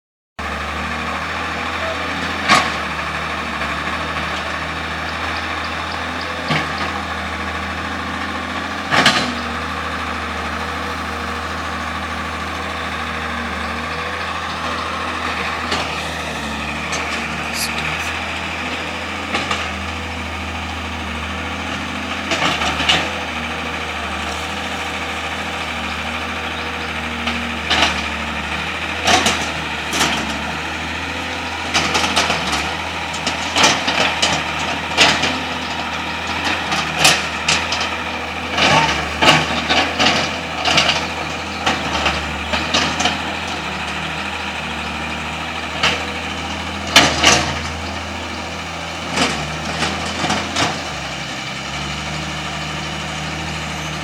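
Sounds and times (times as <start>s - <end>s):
excavator engine running: 0.4s - 54.0s.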